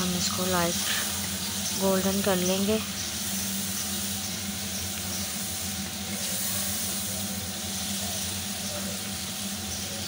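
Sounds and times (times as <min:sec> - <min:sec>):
meat sizzling in hot oil: 0:00.0 - 0:09.8
low hum: 0:00.0 - 0:10.0.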